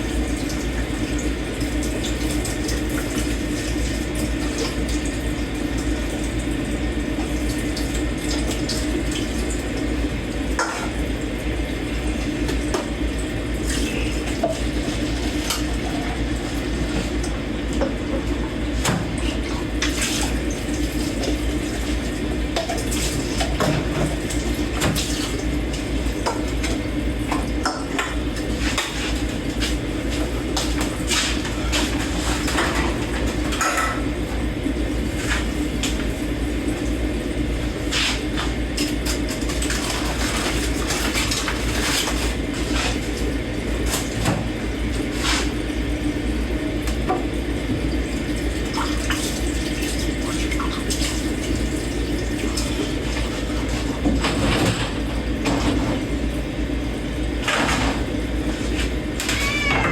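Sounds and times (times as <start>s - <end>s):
tap water running: 0.0s - 59.9s.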